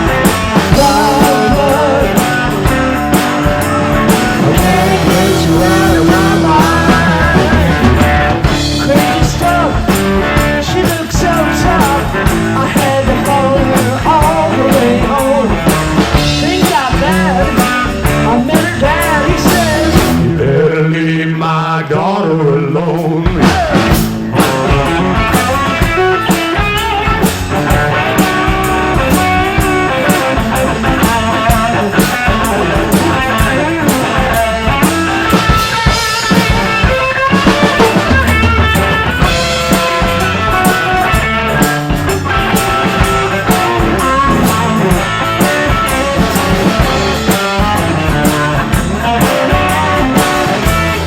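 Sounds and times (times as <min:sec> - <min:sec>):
drum kit beat: 0:00.0 - 0:20.4, 0:23.2 - 0:51.0
lead guitar: 0:00.0 - 0:20.7, 0:23.3 - 0:51.0
bass guitar: 0:00.0 - 0:51.0.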